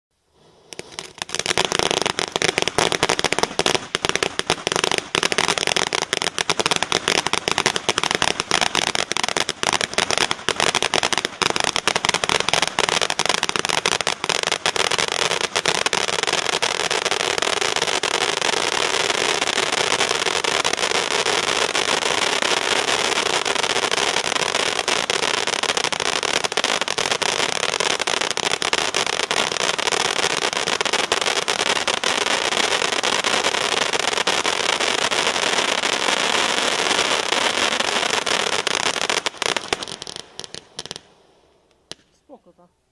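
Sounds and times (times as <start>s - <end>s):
firework fountain hissing and crackling: 0.2s - 42.7s.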